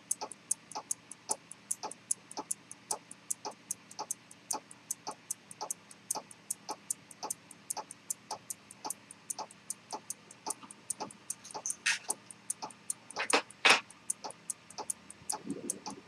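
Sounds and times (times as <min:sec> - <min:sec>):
pocket watch ticking: 0:00.0 - 0:16.0.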